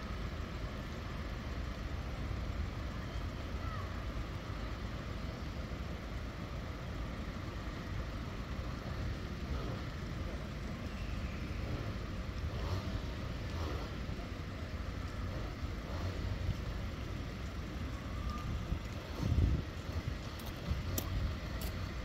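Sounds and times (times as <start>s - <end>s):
low rumble of vehicle noise: 0.0s - 22.0s.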